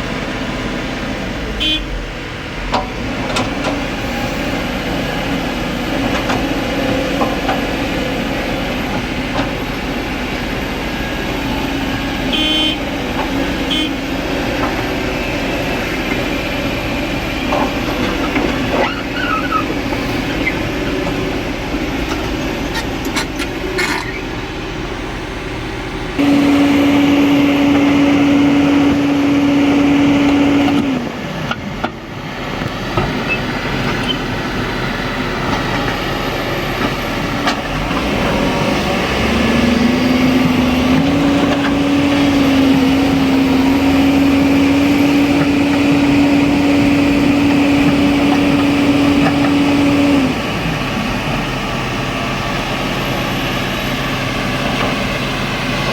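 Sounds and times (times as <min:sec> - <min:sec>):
excavator engine under load: 0:00.0 - 0:55.9
steady whining tone: 0:01.1 - 0:55.8.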